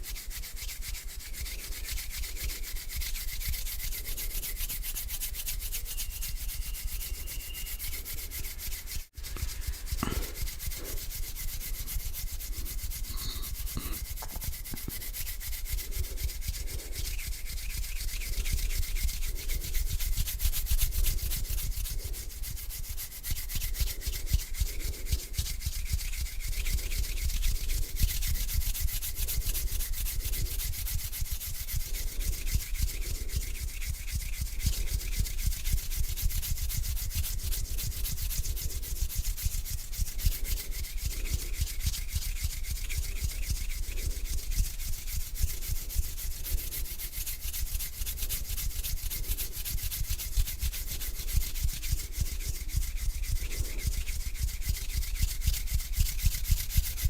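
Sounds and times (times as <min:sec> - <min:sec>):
hands rubbing together: 0:00.0 - 0:57.0.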